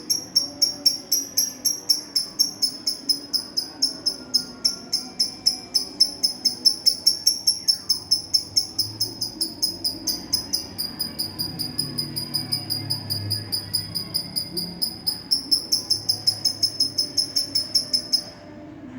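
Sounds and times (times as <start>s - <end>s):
lovebird chirping: 0.0s - 18.4s.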